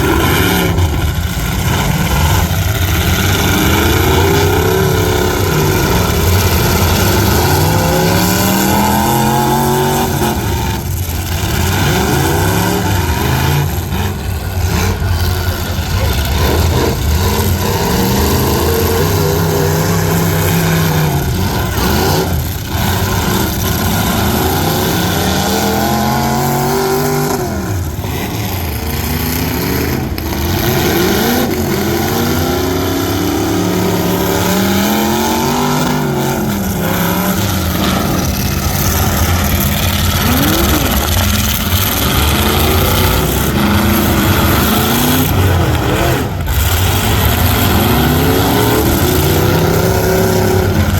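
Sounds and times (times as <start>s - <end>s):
truck engines revving: 0.0s - 50.9s.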